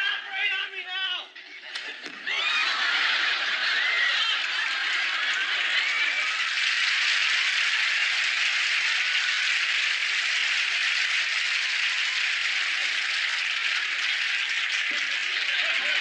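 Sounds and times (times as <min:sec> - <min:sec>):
audience applause: 0:02.0 - 0:16.0.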